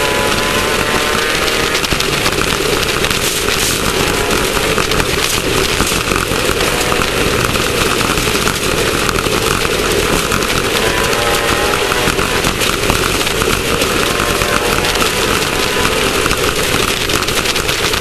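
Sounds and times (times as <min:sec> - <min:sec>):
car engine running hard: 0:00.0 - 0:18.0
car rattling and knocking: 0:00.0 - 0:18.0.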